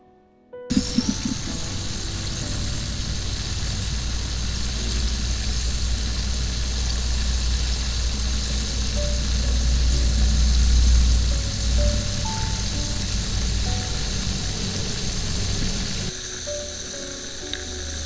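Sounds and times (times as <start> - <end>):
background music: 0.0 - 18.0
steady low rumble: 0.7 - 16.8.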